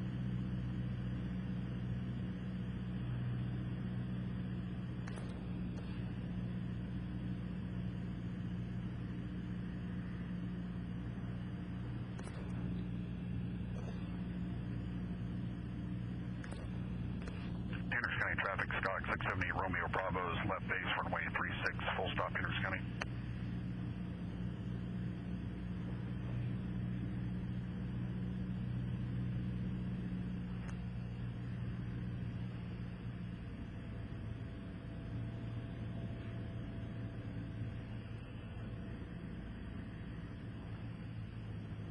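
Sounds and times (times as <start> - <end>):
airplane engine and propeller droning: 0.0 - 41.9.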